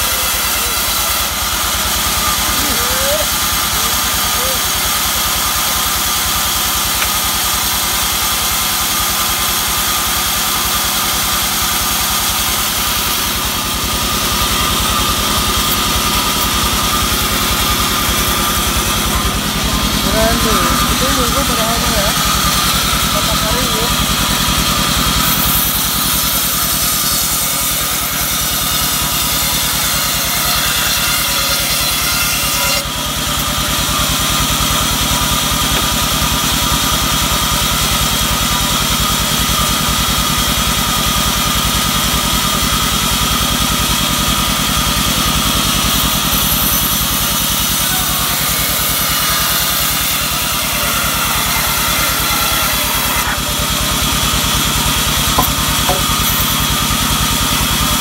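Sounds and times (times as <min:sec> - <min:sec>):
band saw ripping wood: 0:00.0 - 0:08.4, 0:11.3 - 0:38.8, 0:45.1 - 0:58.0.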